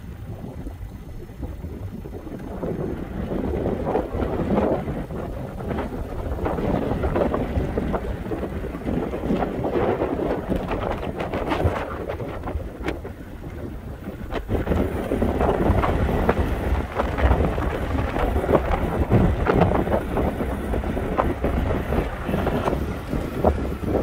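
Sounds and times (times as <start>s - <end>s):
tyres rumbling on road: 0.0s - 24.0s
wind buffeting microphone: 0.0s - 24.0s.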